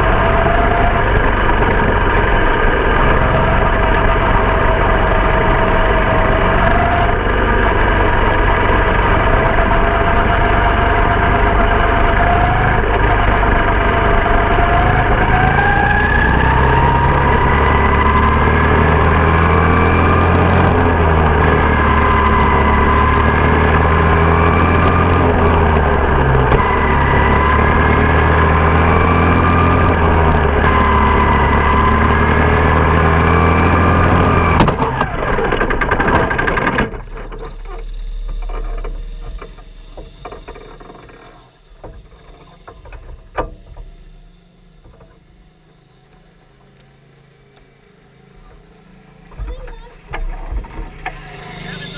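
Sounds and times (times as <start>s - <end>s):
race car engine revving: 0.0s - 51.9s.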